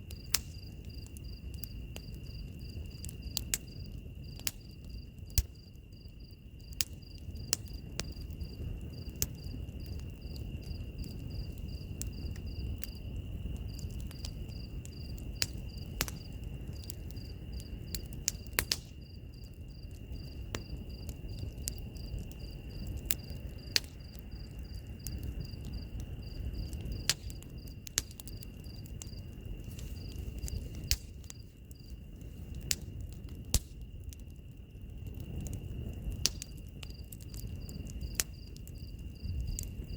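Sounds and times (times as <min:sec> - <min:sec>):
pulsing insect chirp: 0:00.0 - 0:33.1
wood fire crackling and popping: 0:00.0 - 0:39.9
high insect trill: 0:00.1 - 0:33.0.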